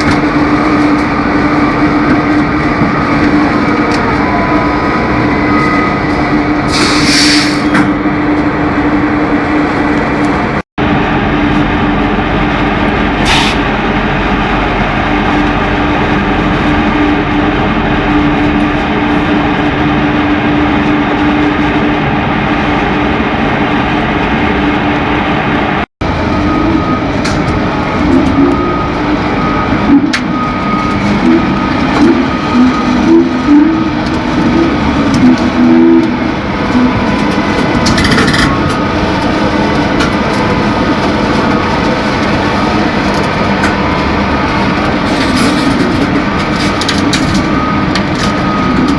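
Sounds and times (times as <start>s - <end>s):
heavy electric machinery humming: 0.0s - 48.9s.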